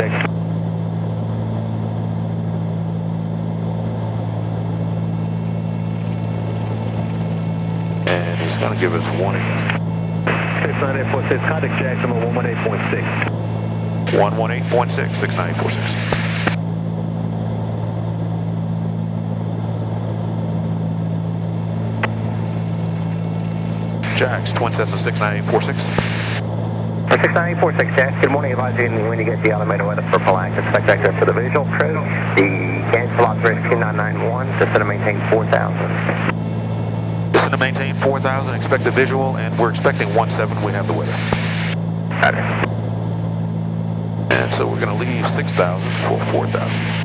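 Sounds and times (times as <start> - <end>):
aircraft engines droning in cabin: 0.0 - 47.0.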